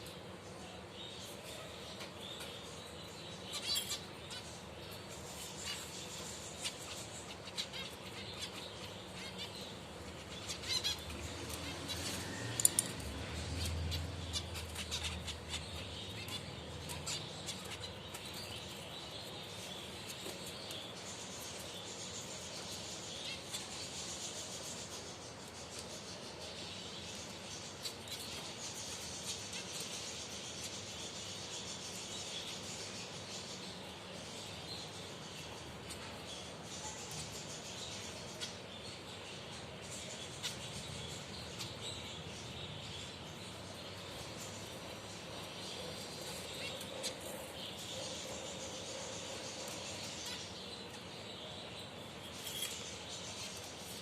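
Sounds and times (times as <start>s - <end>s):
finches chirping: 0.0s - 54.0s.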